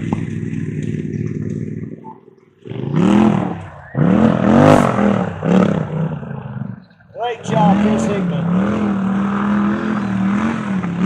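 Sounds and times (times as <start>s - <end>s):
engine revving in blips: 0.0s - 11.0s.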